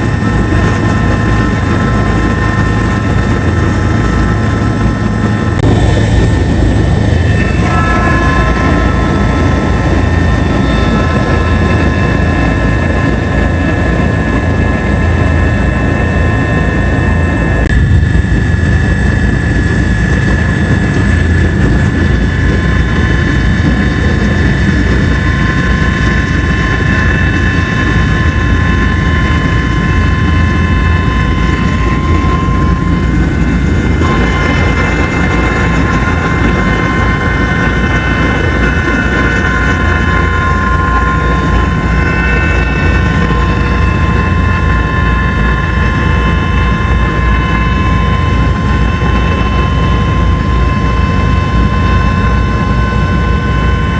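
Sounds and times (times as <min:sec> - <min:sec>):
helicopter rotor and engine drone: 0:00.0 - 0:53.9
high turbine whine: 0:00.0 - 0:53.9.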